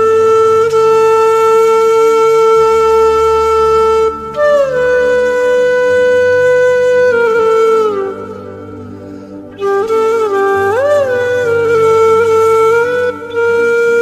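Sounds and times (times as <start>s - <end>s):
low drone: 0.0s - 14.0s
wind instrument long notes: 0.0s - 14.0s.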